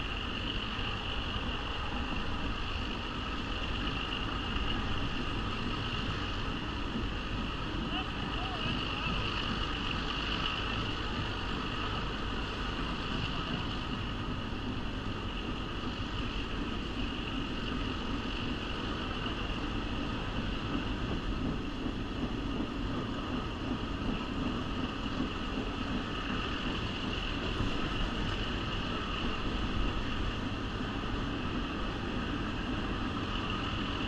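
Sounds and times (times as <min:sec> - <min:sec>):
train wheels on rails rumbling: 0:00.0 - 0:34.0.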